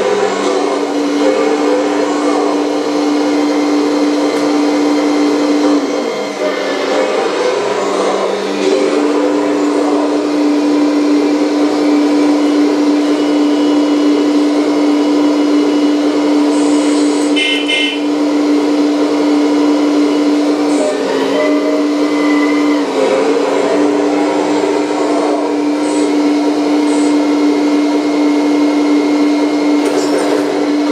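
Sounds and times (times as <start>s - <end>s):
hydraulic pump whining: 0.0s - 30.9s.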